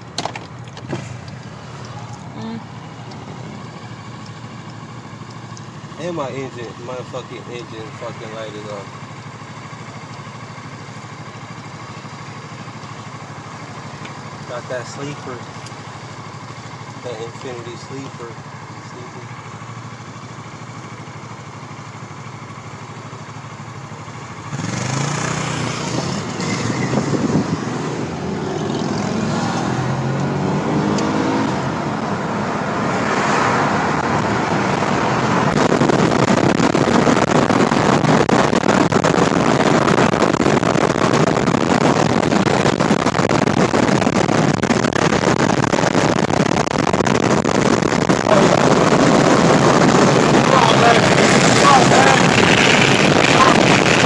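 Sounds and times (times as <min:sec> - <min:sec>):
car engine revving: 0:00.0 - 0:08.9, 0:10.9 - 0:54.0
wind and road noise: 0:00.0 - 0:54.0.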